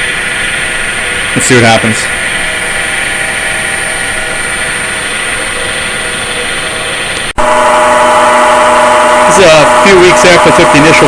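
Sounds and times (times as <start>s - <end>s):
wood lathe running with whine: 0.0s - 11.0s.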